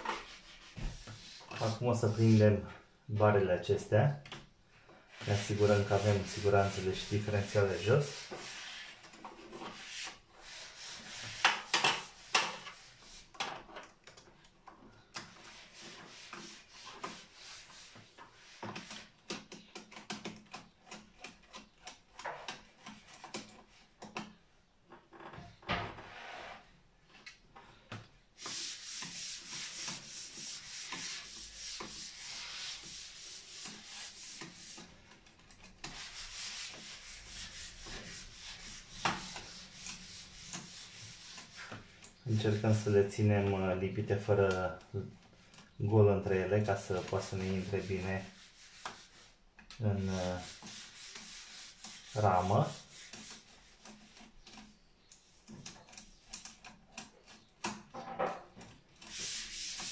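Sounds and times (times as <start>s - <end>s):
plastic busbar scraping and clicking: 5.3s - 43.5s, 46.5s - 59.9s.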